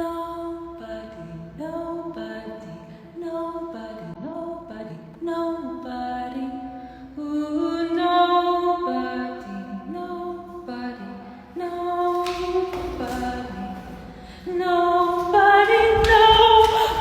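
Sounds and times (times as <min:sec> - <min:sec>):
a cappella singing in harmony: 0:00.0 - 0:17.0.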